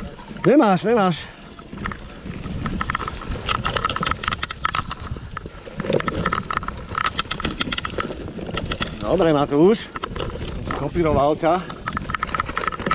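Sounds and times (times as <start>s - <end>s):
bike rattling and clattering: 0.0s - 12.9s.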